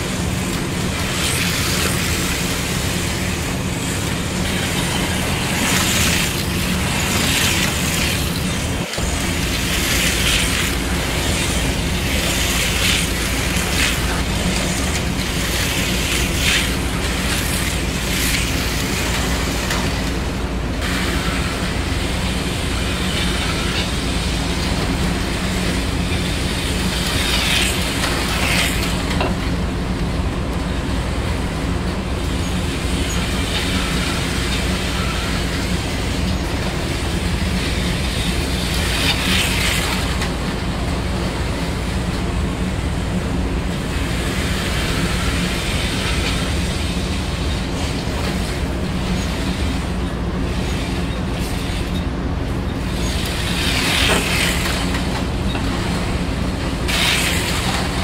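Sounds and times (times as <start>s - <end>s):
model train electric hum: 0.0s - 58.0s.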